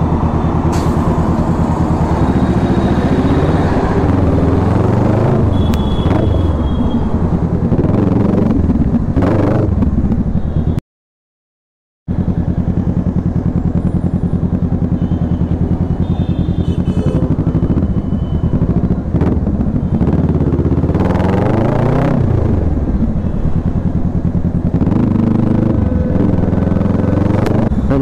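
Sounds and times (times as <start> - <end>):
motorcycle engine revving: 0.0 - 10.7, 12.1 - 28.0.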